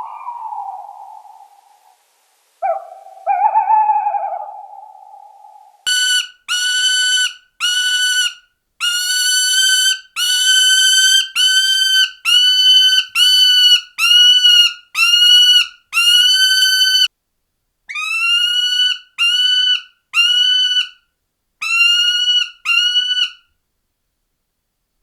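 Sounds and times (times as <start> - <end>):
bird of prey calling: 0.0 - 2.0, 2.6 - 17.1, 17.9 - 21.0, 21.6 - 23.5.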